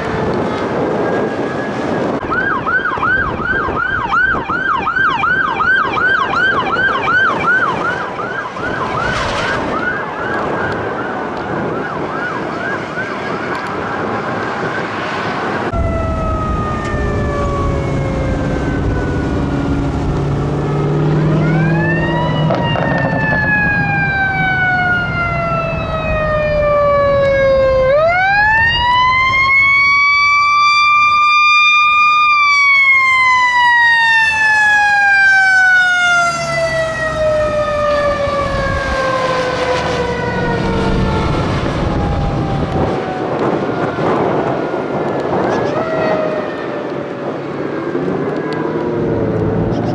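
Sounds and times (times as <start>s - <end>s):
fire engine rumble: 0.0s - 49.9s
police siren yelping: 0.0s - 49.9s.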